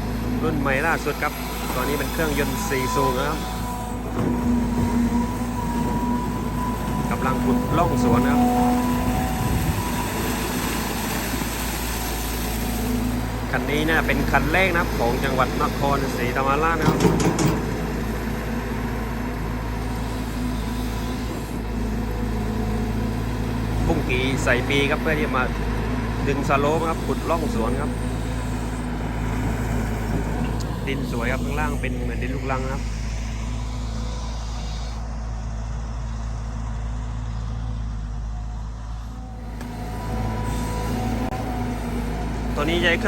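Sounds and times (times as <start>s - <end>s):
hydraulic pump running: 0.0s - 35.2s, 39.3s - 43.0s
excavator diesel engine: 0.0s - 43.0s.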